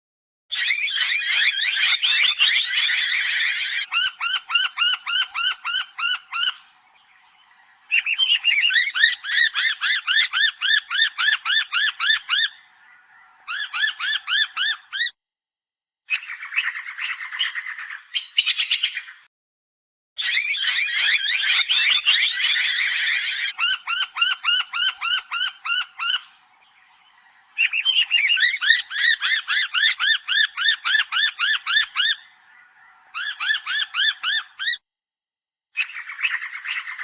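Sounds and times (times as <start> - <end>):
birds calling: 0.5 - 15.2, 16.1 - 19.3, 20.2 - 34.8, 35.8 - 37.0.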